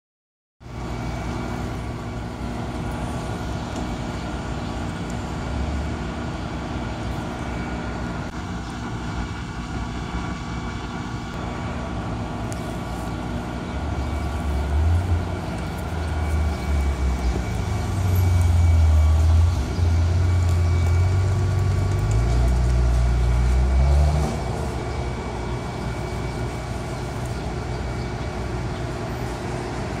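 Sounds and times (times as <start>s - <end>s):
car engine idling and revving: 0.6s - 30.0s.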